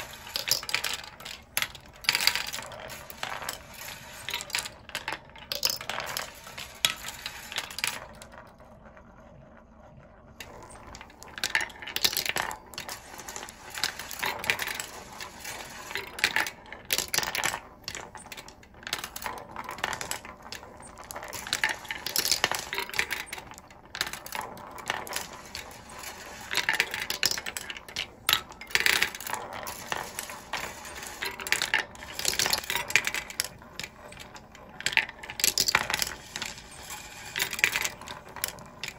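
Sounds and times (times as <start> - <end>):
glass marbles clacking on tracks: 0.0 - 38.9.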